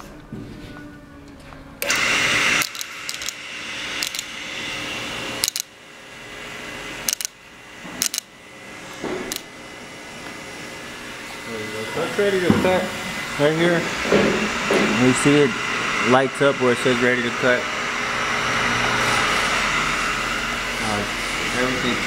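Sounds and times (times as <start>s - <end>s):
brake lathe motor hum: 1.8s - 22.0s.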